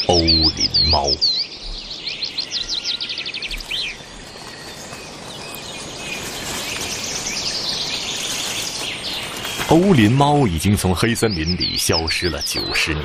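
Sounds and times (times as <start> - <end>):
distant birdsong chorus: 0.0 - 13.0
songbirds chirping and trilling: 0.0 - 13.0.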